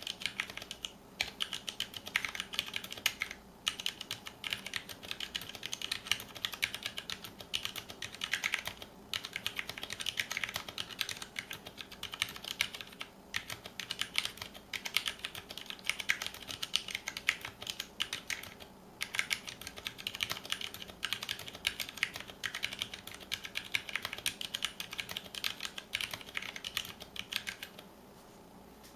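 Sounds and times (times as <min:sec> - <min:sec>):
typing on mechanical keyboard: 0:00.0 - 0:27.9.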